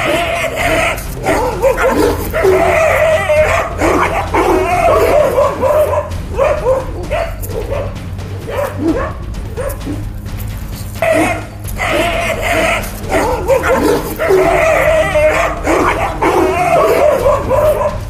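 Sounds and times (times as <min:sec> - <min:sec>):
dogs barking and yelping: 0:00.0 - 0:18.0.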